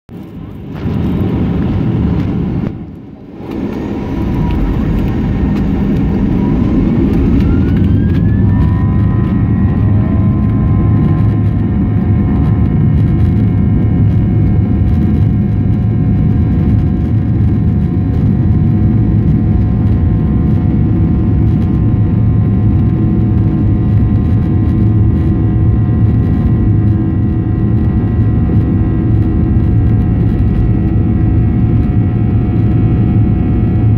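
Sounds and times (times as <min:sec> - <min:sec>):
jet engines whine and rumble: 0:00.1 - 0:33.9.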